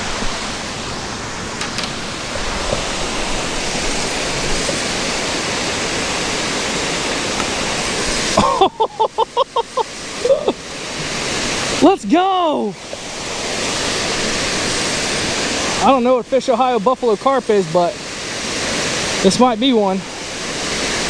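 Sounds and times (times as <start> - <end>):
creek waterfall rushing: 0.0 - 21.0.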